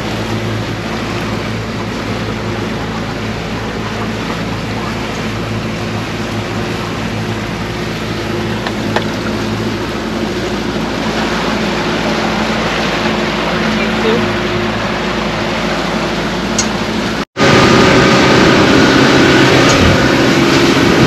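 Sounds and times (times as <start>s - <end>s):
boat engine humming: 0.0s - 21.0s
rushing wind and water: 0.0s - 21.0s.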